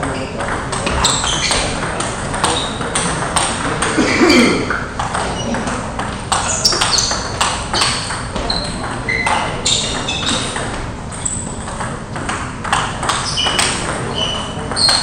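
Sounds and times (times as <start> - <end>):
table tennis balls clicking: 0.0 - 4.0, 4.7 - 15.0.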